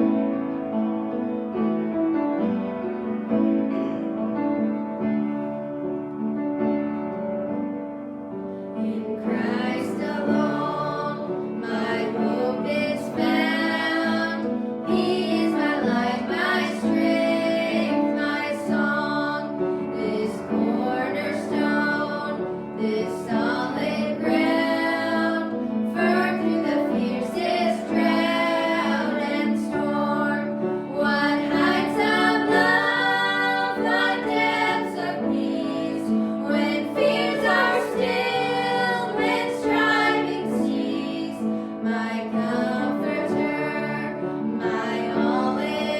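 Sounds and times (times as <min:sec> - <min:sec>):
woman singing a hymn: 0:08.8 - 0:45.9.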